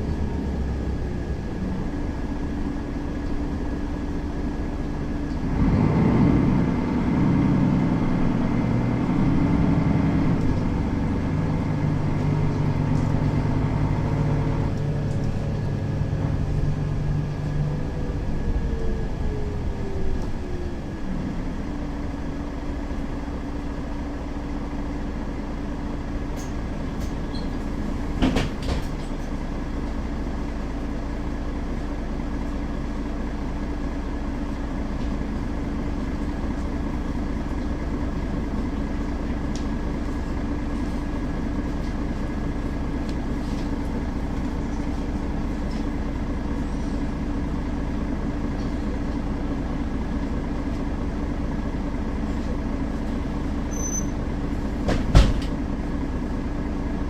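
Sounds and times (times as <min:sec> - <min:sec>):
bus engine and drive whine: 0:00.0 - 0:57.0
bus engine idling: 0:00.0 - 0:57.0.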